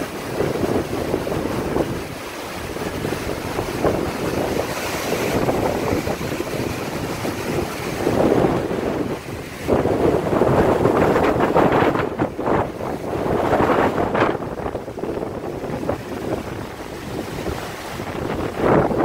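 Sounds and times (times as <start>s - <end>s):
gusty wind on microphone: 0.0s - 19.0s
trees tossing in wind: 0.0s - 19.0s.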